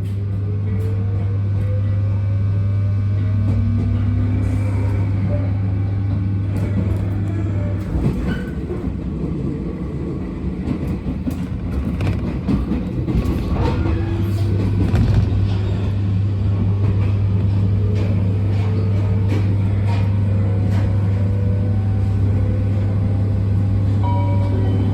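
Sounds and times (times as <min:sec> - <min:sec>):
train interior hum: 0:00.0 - 0:24.9.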